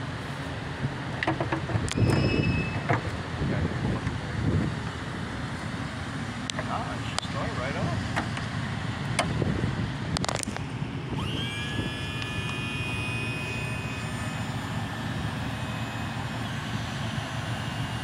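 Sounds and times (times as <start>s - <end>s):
outboard motor running: 1.1s - 18.0s
high whine: 1.8s - 18.0s.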